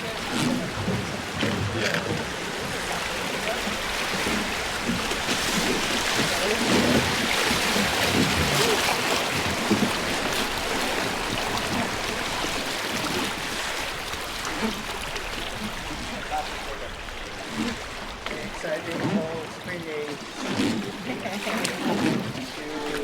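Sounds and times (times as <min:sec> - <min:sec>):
river water rushing against hull: 0:00.0 - 0:23.0.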